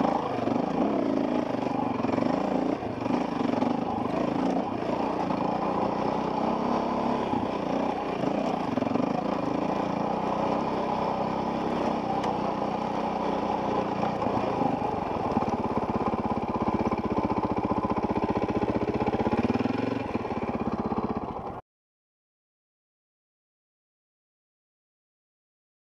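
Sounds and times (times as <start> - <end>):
dirt bike engine: 0.0 - 21.6.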